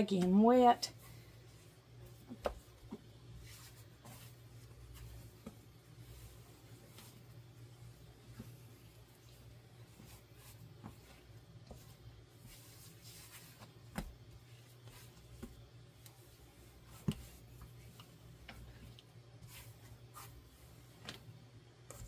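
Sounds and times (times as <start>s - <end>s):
hands kneading dough: 0.0s - 22.0s.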